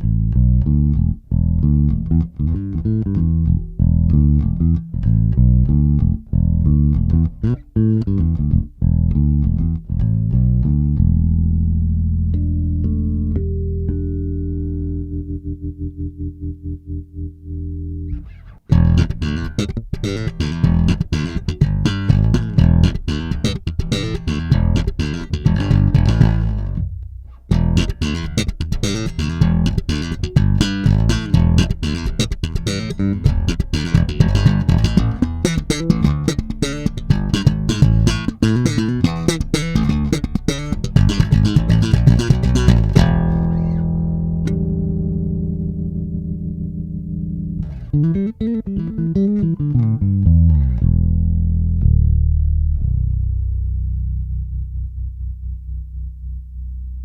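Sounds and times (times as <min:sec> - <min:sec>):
bass guitar groove: 0:00.0 - 0:57.0.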